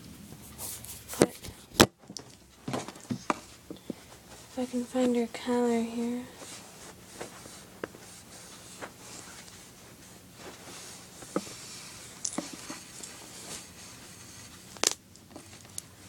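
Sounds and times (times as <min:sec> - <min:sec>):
objects rustling: 0:00.4 - 0:16.0.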